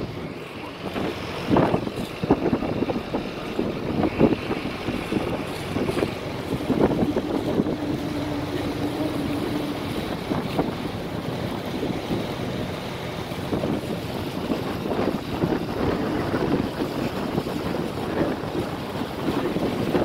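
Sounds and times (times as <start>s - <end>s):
boat engine running: 0.0s - 20.0s
wind rumbling on microphone: 0.0s - 20.0s.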